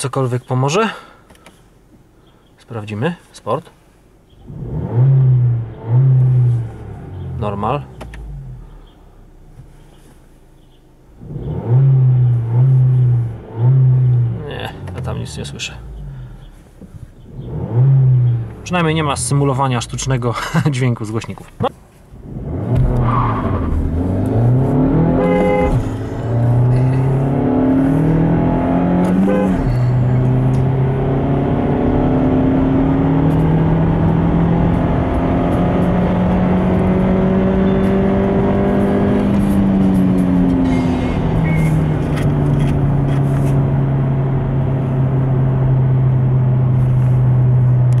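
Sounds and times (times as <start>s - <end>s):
car engine accelerating hard: 4.4s - 9.0s, 11.2s - 16.6s, 17.2s - 20.2s, 22.2s - 48.0s.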